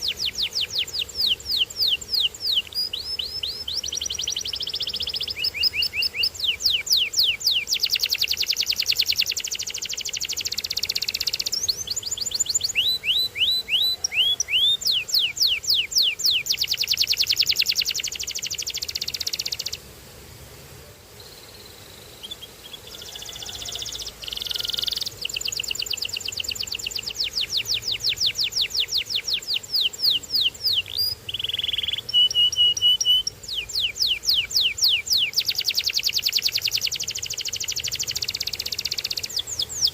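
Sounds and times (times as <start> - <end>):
canary singing trills: 0.0 - 19.8, 21.2 - 39.9.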